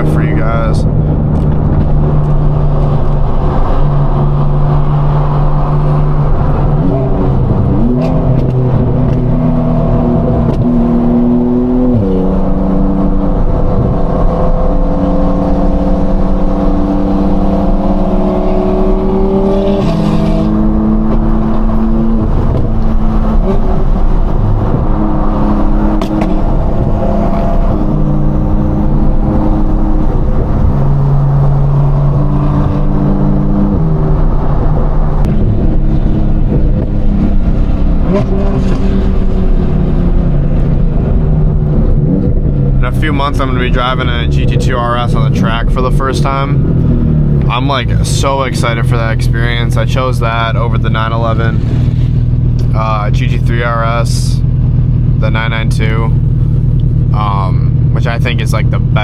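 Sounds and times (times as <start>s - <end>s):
sports car engine cruising: 0.0s - 59.0s.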